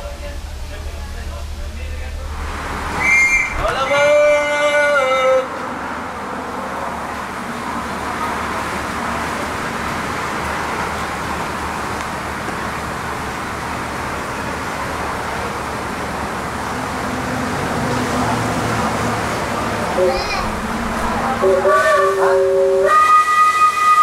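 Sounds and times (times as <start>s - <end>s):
steam train rushing noise: 0.0s - 24.0s.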